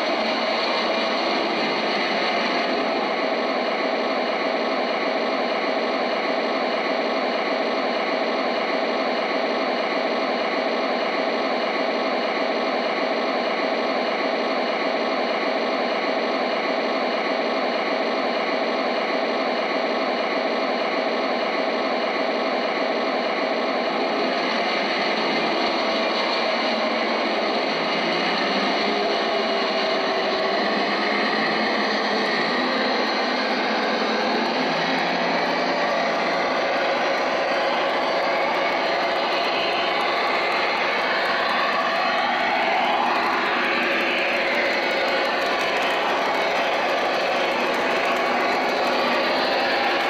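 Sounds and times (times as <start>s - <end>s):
model train diesel idle sound: 0.0s - 50.0s.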